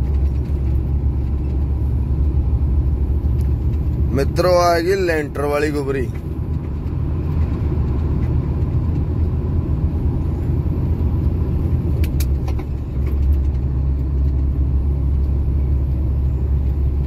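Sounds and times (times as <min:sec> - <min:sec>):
road rumble: 0:00.0 - 0:17.0
truck engine drone: 0:00.0 - 0:17.0.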